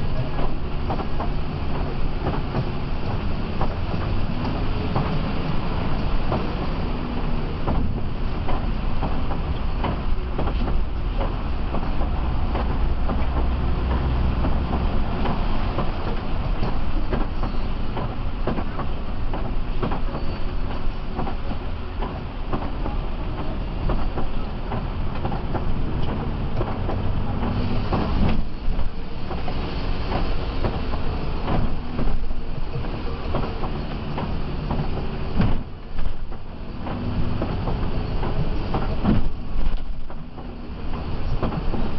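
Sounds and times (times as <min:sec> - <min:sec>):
tyre and road noise: 0:00.0 - 0:41.9
bodywork clicks and rattles: 0:07.6 - 0:41.9.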